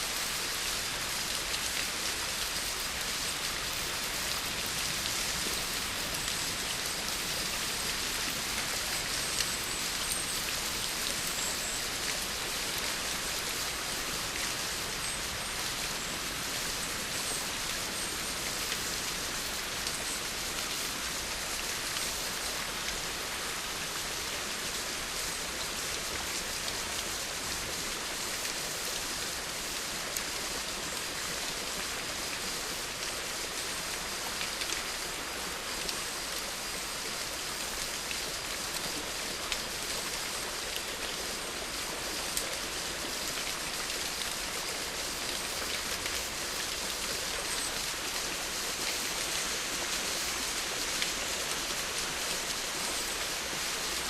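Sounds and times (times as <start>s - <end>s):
steady rain falling: 0.0s - 54.0s
raindrops ticking on a surface: 0.1s - 54.0s.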